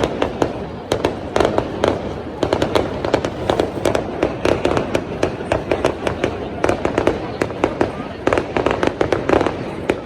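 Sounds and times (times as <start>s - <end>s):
firecrackers cracking: 0.0s - 10.0s.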